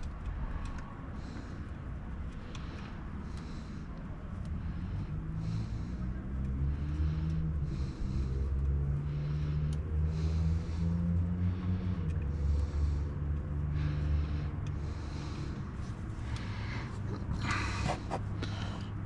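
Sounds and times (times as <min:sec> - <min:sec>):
steady low hum: 0:00.0 - 0:19.0
breathing close to microphone: 0:00.1 - 0:19.0.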